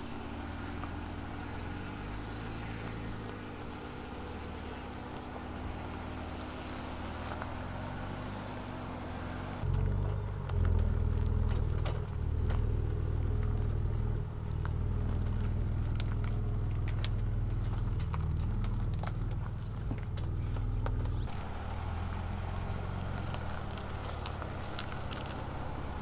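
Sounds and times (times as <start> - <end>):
pickup engine running low revs: 0.0 - 26.0
stones crunching under tyres: 0.0 - 26.0.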